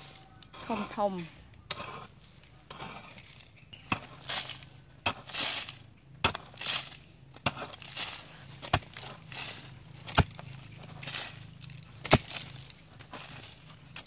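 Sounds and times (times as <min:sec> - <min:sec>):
hoe chopping into dry soil: 0:00.0 - 0:14.0
scrape of loose earth: 0:00.0 - 0:14.0.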